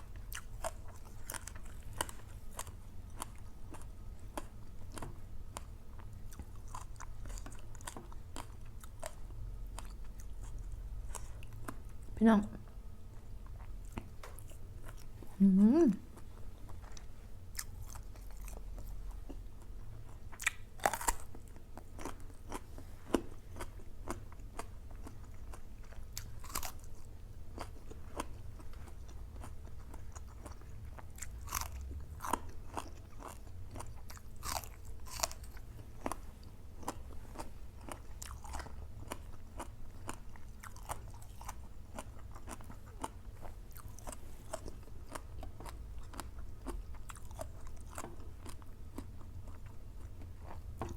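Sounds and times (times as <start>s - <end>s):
person chewing crunchy food: 0.0s - 12.1s, 13.0s - 15.4s, 16.1s - 50.9s
low steady hum: 0.0s - 50.9s.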